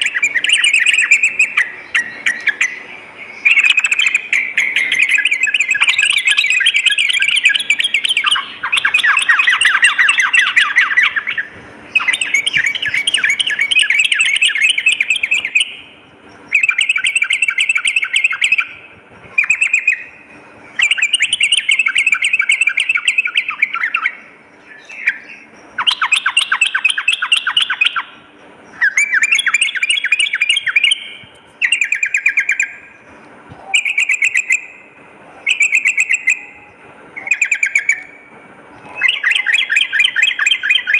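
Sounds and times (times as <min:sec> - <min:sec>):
bulbul chattering song: 0:00.0 - 0:40.9.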